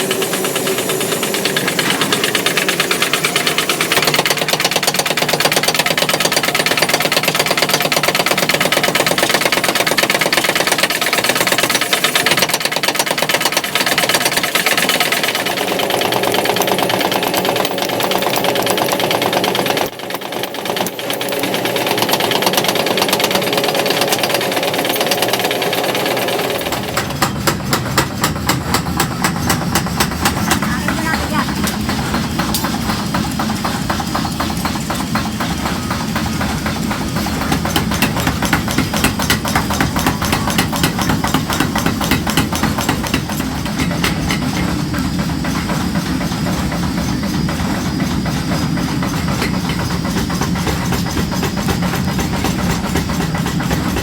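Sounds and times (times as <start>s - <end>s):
machinery mechanical knocking: 0.0s - 54.0s.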